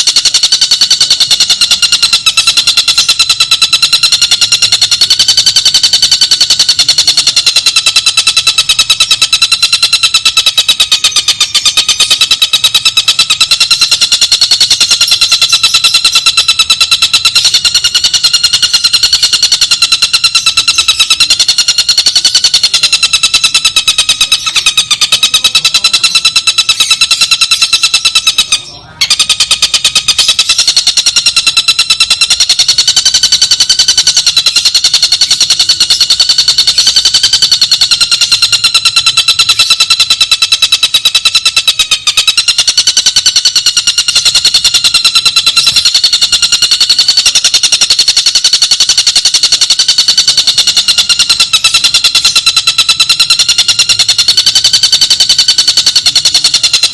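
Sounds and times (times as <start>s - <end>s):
shrill rapid bird trill: 0.0s - 56.9s.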